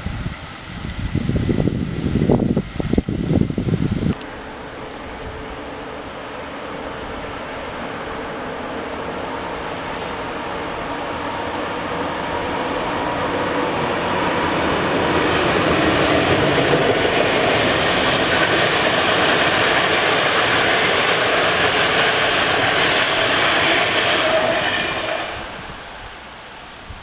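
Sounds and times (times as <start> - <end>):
passenger train passing: 0.0 - 27.0.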